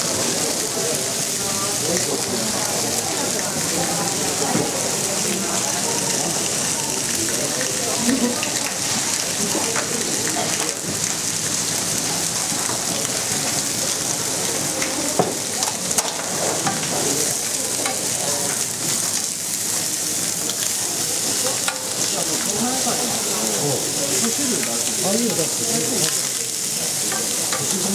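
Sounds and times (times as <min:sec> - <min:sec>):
steaks sizzling on grill pan: 0:00.0 - 0:27.9.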